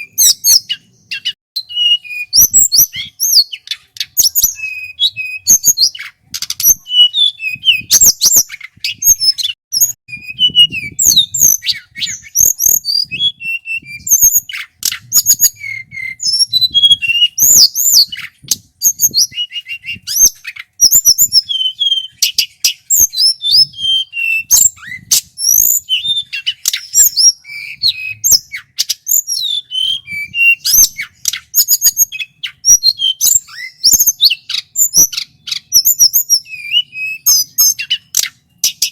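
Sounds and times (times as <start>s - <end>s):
flycatcher singing: 0.0s - 38.9s.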